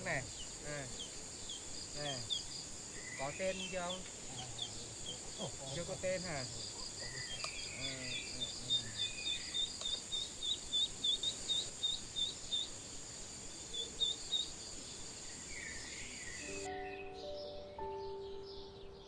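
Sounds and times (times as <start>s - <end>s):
insect drone: 0.0s - 18.9s.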